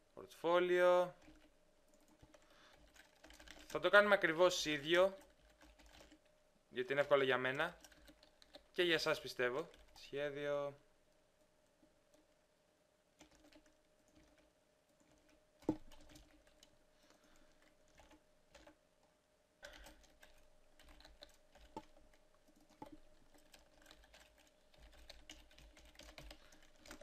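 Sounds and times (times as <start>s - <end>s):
keyboard typing: 1.0s - 6.3s, 7.0s - 10.3s, 13.2s - 18.8s, 19.6s - 27.0s.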